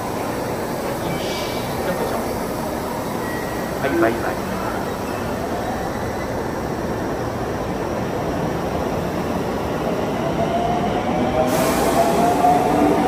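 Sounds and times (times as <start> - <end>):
electric train running noise: 0.0 - 13.0.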